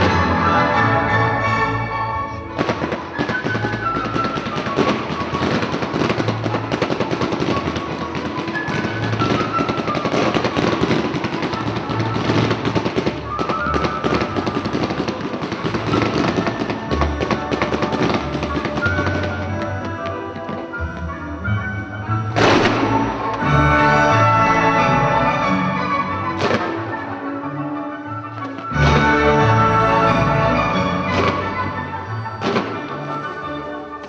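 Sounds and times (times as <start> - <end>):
fireworks crackling and popping: 0.0 - 1.2, 1.9 - 34.0
music playing: 0.0 - 34.0.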